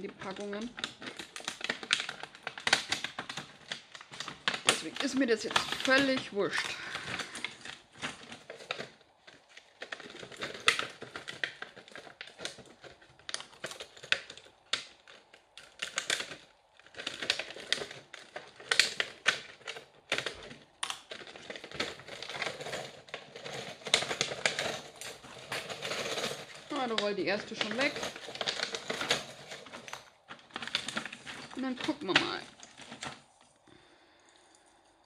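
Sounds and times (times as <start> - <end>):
plastic packaging crinkling: 0.0 - 35.0.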